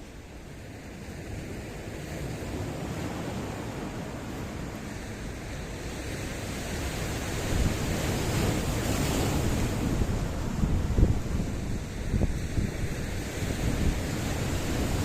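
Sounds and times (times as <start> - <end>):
waves washing over stones: 1.4 - 15.0.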